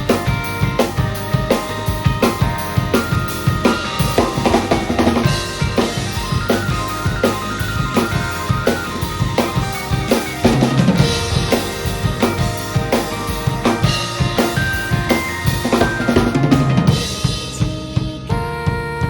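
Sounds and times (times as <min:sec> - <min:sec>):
drum kit beat: 0:00.0 - 0:19.0
pop-rock backing track: 0:00.0 - 0:19.0.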